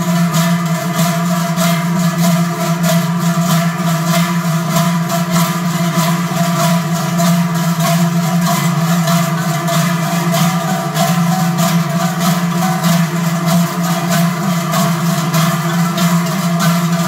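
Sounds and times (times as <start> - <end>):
large cowbells clanging: 0.0 - 17.0.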